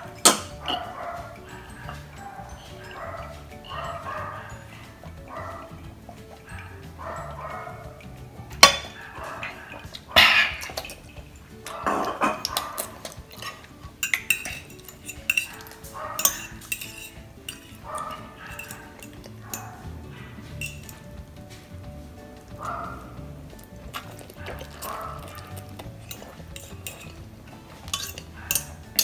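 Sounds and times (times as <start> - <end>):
dog sounds: 0.0 - 29.0
fork scraping glass dish: 0.1 - 7.8, 8.6 - 19.8, 20.4 - 21.0, 23.8 - 29.0.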